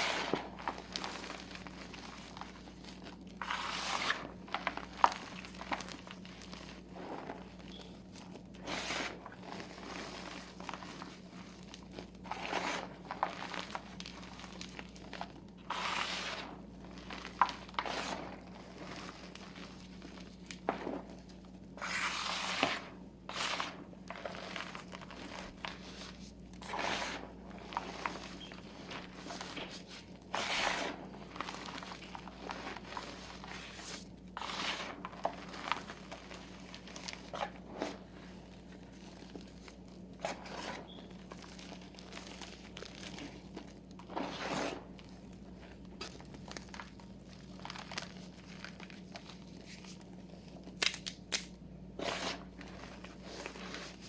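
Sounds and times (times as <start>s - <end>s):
chalk crunching by hand: 0.0s - 7.6s, 8.2s - 21.2s, 21.8s - 44.9s, 52.0s - 54.0s.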